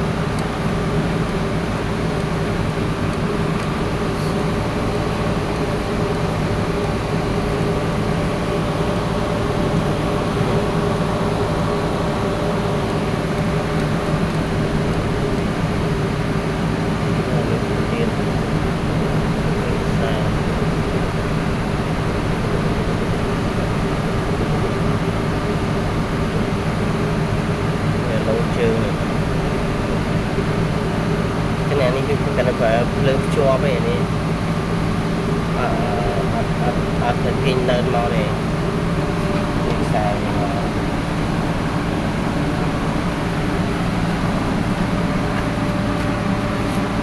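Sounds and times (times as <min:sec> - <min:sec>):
compressor motor humming: 0:00.0 - 0:47.0.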